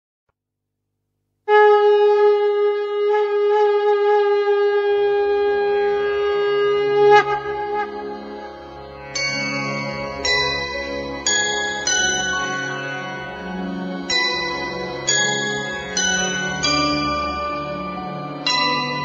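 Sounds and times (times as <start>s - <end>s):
conch shell blown: 1.5s - 19.0s
low backing music: 2.2s - 19.0s.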